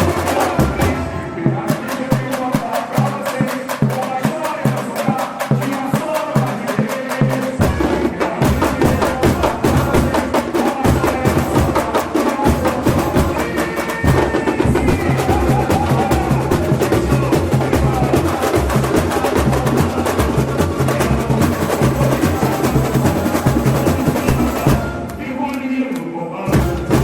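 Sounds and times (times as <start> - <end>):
rapid snare drum: 0.0 - 25.4, 26.5 - 27.0
samba drum groove: 0.0 - 25.6, 26.5 - 27.0.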